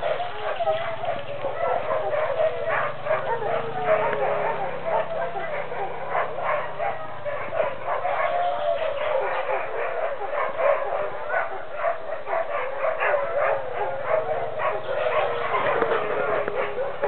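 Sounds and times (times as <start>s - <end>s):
dogs barking and yipping: 0.0s - 17.0s
dogs whining and howling: 0.0s - 17.0s.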